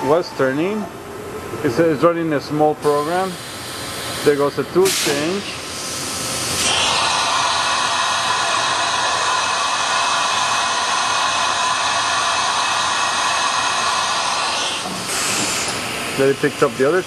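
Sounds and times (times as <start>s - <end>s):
compressed air hiss: 2.9s - 17.0s.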